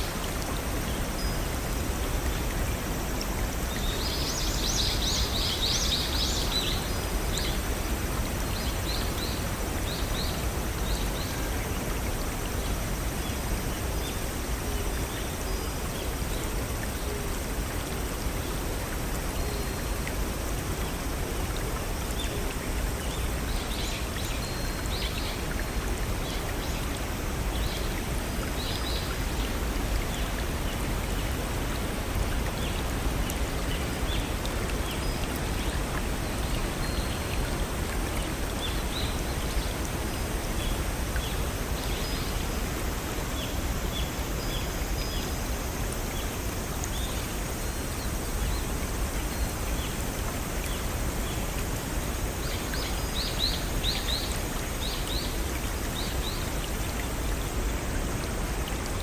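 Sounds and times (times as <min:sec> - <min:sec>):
stream rushing over small waterfalls: 0:00.0 - 0:59.0.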